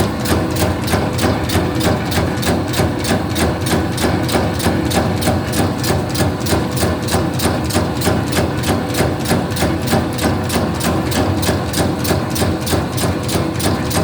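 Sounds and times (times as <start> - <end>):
machine clacking: 0.0 - 14.0.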